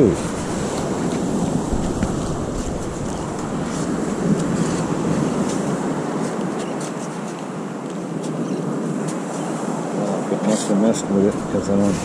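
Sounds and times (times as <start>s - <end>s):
surf: 0.0s - 12.0s
wind on microphone: 0.0s - 12.0s.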